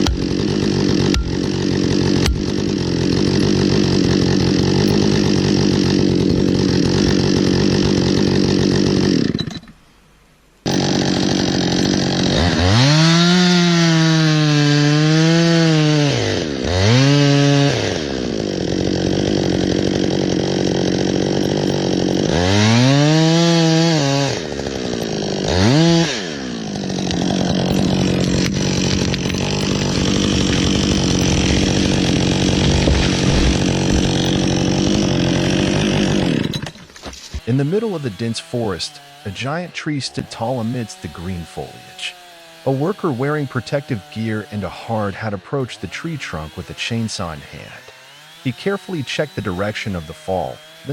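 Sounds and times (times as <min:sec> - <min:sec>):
chainsaw engine revving: 0:00.0 - 0:09.7, 0:10.6 - 0:50.9.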